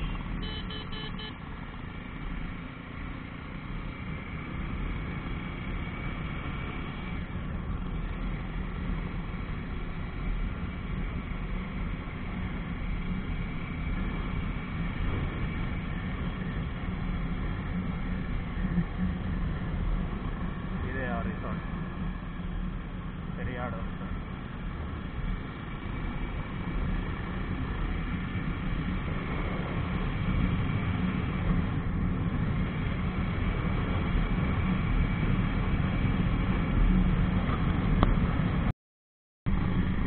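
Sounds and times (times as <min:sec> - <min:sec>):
wind and road rush: 0:00.0 - 0:38.7, 0:39.5 - 0:40.0.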